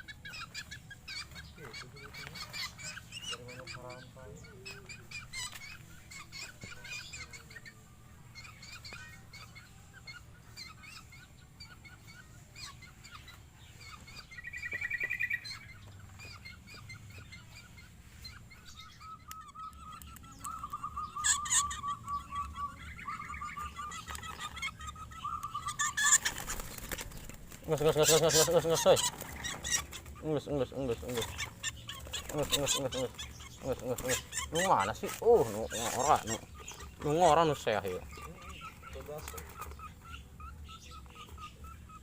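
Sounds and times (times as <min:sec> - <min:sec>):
bird trill: 0:00.0 - 0:42.0
birds chirping: 0:00.0 - 0:42.0
harsh nasal bird calls: 0:00.0 - 0:42.0.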